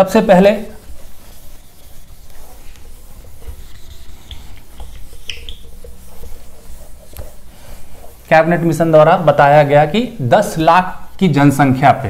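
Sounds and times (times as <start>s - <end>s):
eraser wiping whiteboard: 0.0s - 11.9s.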